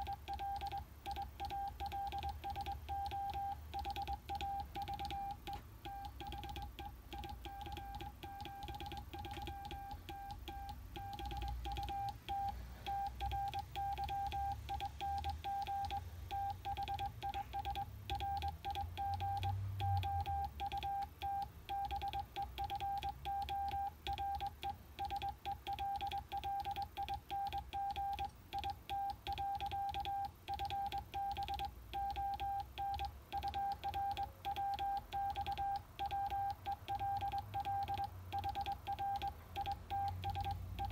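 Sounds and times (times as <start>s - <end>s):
morse code tone: 0.0s - 40.9s.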